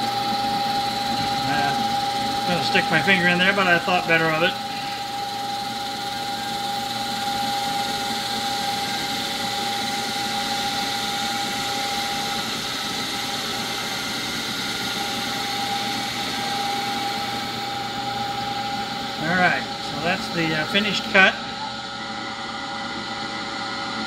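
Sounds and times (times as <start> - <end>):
milling machine spindle whine: 0.0 - 24.0.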